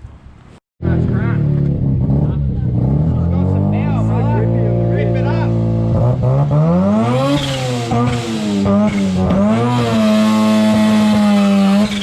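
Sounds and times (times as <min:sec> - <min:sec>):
car engine revving: 0:00.8 - 0:12.0.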